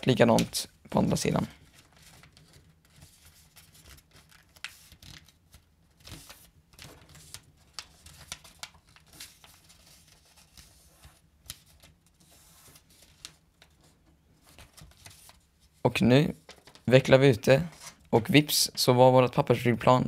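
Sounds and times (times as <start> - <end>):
paper rustling and crinkling: 0.2 - 18.2.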